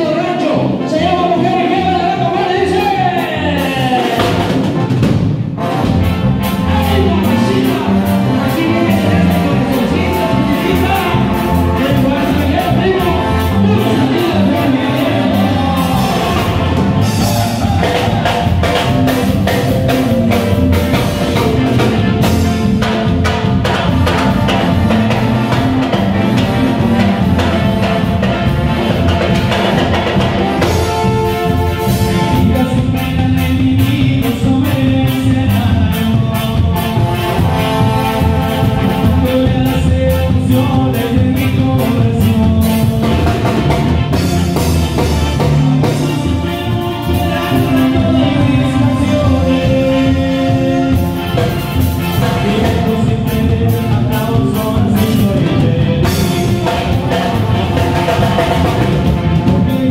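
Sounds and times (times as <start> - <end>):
man singing through pa: 0.0 - 4.6, 6.4 - 59.9
bass guitar: 0.0 - 59.9
electronic keyboards: 0.0 - 59.9
drum kit beat: 1.7 - 59.9.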